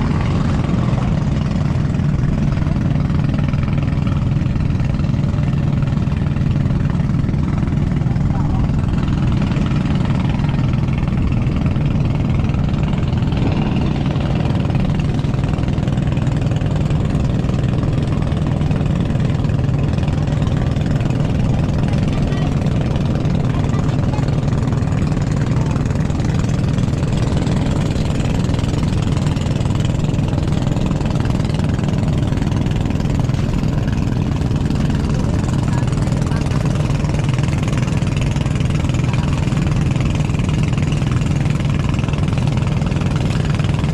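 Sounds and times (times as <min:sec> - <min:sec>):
boat engine droning: 0:00.0 - 0:43.9
choppy water rushing around hull: 0:00.0 - 0:43.9.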